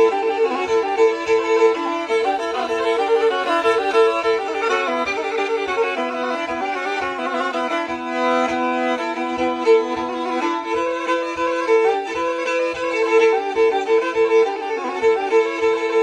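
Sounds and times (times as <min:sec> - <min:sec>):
bowed fiddle playing lively tune: 0:00.0 - 0:16.0.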